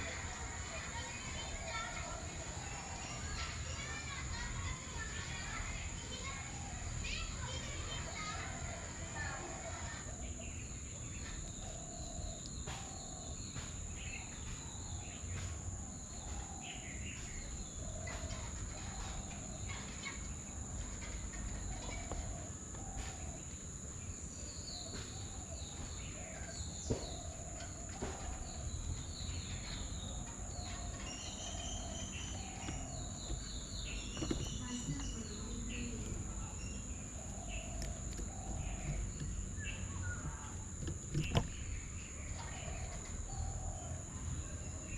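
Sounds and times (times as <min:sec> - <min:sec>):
bird chirps and trills: 0:00.0 - 0:44.9
insect drone: 0:00.0 - 0:44.9
low bird calls: 0:00.0 - 0:44.9.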